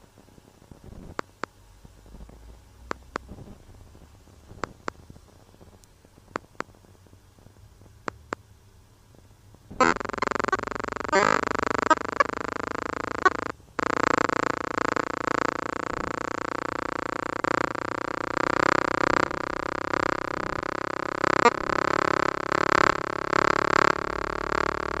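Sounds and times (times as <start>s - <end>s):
electronic drone of stacked tones: 0.0s - 5.0s, 9.7s - 25.0s.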